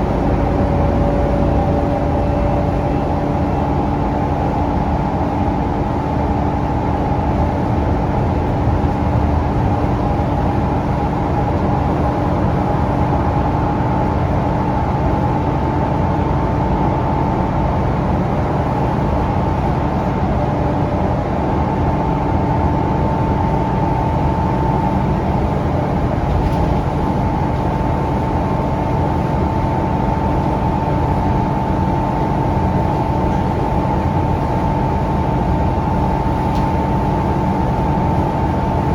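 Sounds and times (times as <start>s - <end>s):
bus engine droning: 0.0s - 38.9s
road noise: 0.0s - 38.9s.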